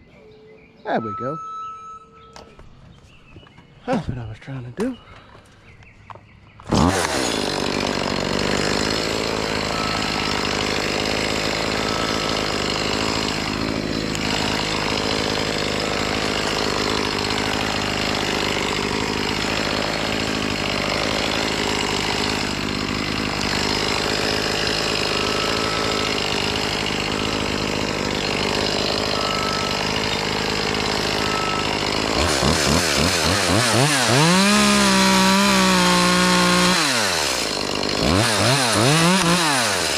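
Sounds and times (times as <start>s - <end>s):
chainsaw idling and revving: 6.6s - 39.9s.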